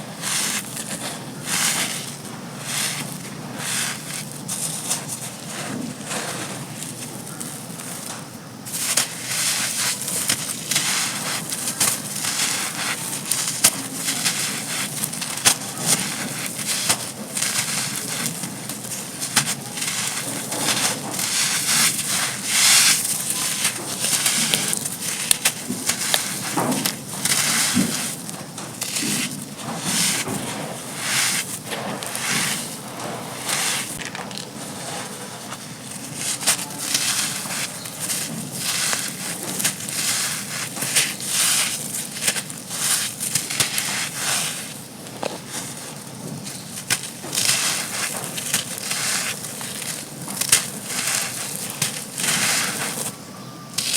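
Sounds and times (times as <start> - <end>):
sand and cement chunks crunching: 0.0 - 53.9.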